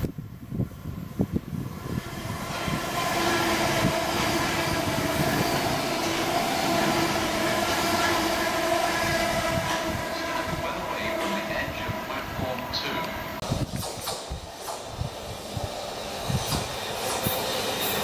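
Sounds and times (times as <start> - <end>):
train rushing past: 0.6 - 18.0.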